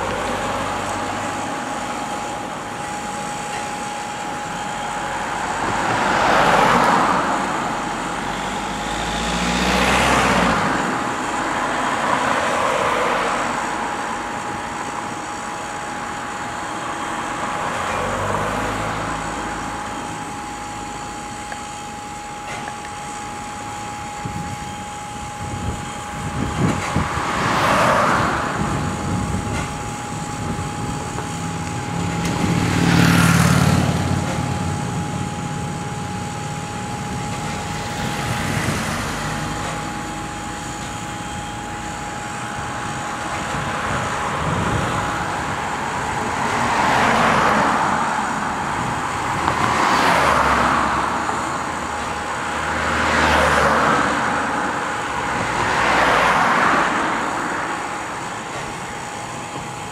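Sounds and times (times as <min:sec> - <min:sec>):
steady tone: 0:00.0 - 0:59.9
vehicles passing: 0:00.0 - 0:59.9.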